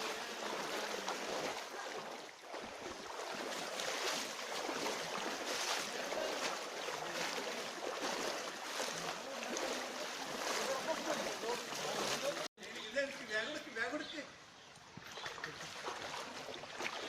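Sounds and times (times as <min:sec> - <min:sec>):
floodwater rushing: 0:00.0 - 0:13.9, 0:14.9 - 0:17.0.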